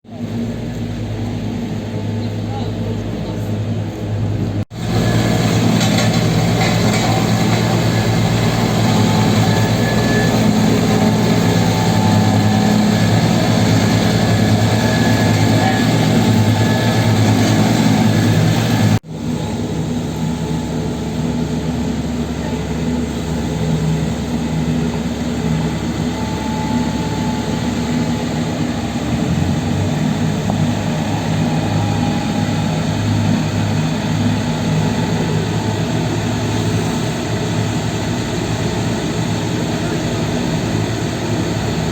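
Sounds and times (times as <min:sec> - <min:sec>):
diesel machinery humming: 0:00.1 - 0:41.9.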